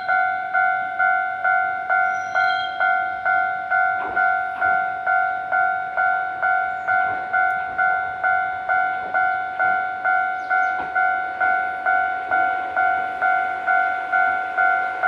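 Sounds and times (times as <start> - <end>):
level-crossing warning bell: 0.0 - 15.0.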